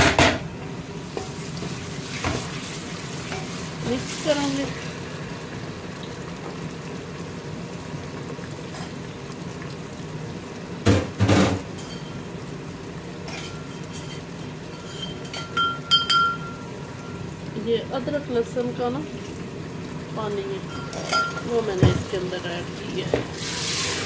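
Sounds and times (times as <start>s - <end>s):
onions frying in oil: 0.0s - 24.0s.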